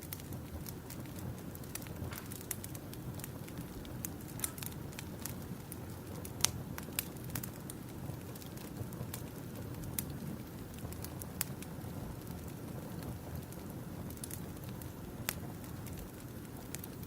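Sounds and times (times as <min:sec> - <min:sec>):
campfire wood crackling and popping: 0:00.0 - 0:17.0
low rumble of flames: 0:00.0 - 0:17.0.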